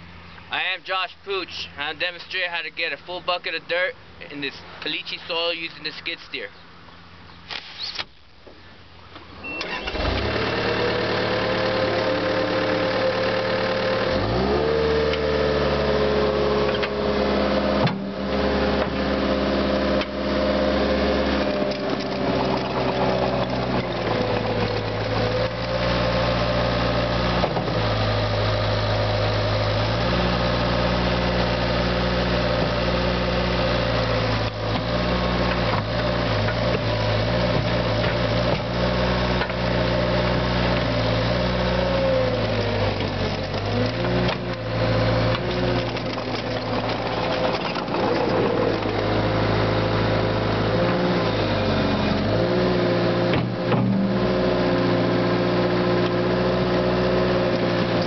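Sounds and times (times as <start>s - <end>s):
diesel engine under load: 8.5s - 58.0s.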